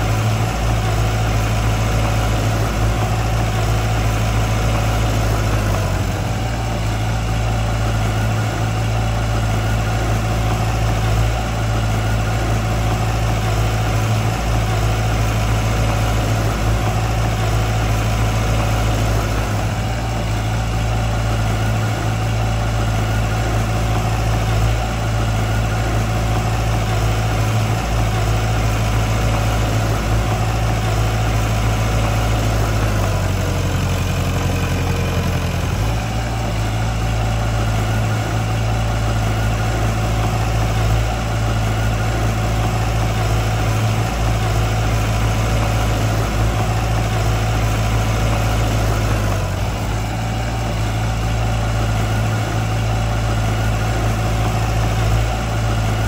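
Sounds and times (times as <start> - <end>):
diesel engine running at low revs: 0.0 - 56.0.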